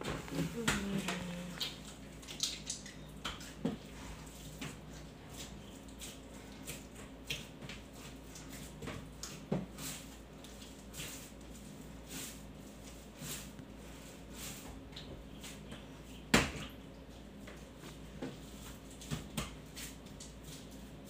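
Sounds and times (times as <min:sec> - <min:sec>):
dough being kneaded by hand: 0:00.0 - 0:21.0.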